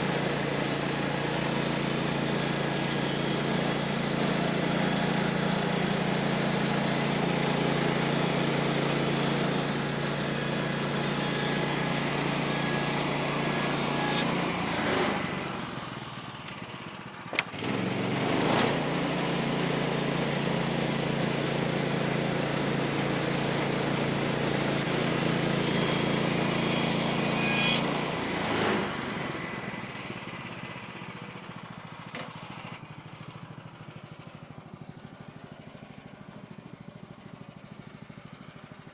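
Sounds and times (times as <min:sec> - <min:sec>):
sawmill gasoline engine running: 0:00.0 - 0:38.9.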